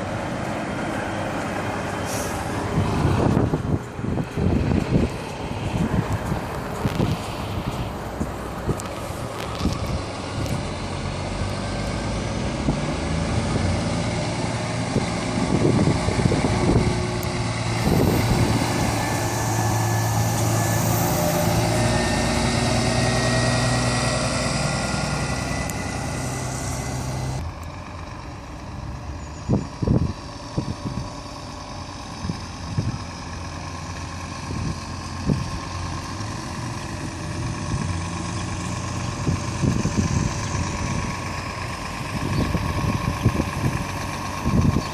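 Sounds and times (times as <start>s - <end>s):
truck diesel engines driving past: 0.0s - 44.9s.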